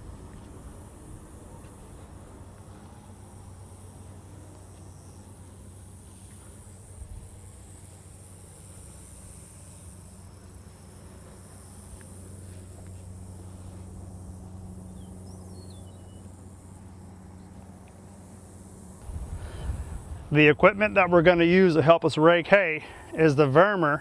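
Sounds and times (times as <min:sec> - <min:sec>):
engine idling hum: 0:00.0 - 0:24.0
insect trill: 0:00.4 - 0:24.0.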